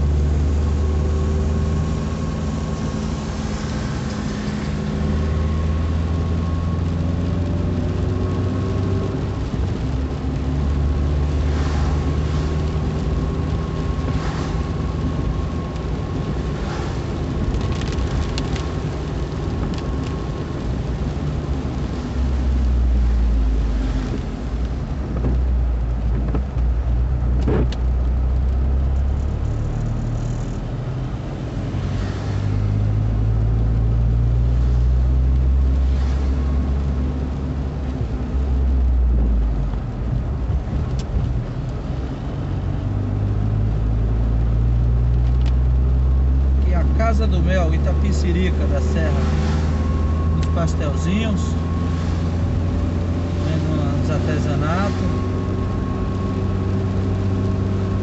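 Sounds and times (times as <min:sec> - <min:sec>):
road noise on wet road: 0:00.0 - 0:58.0.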